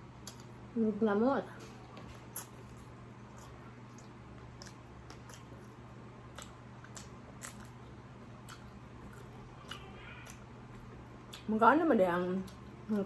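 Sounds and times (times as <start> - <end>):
steady low hum: 0.0 - 13.0
quiet chewing: 0.2 - 0.6, 1.5 - 11.6, 12.2 - 13.0.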